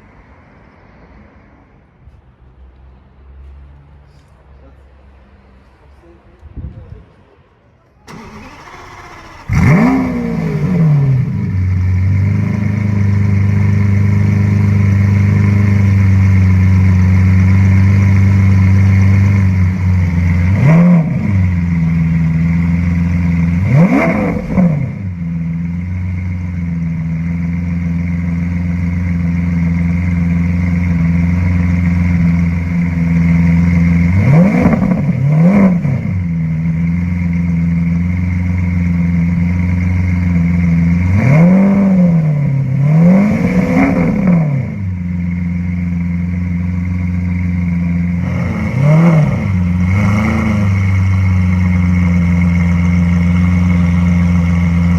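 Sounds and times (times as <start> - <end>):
engine throttle revs: 8.1 - 26.6, 27.2 - 54.9
sports car engine idling: 8.1 - 54.9.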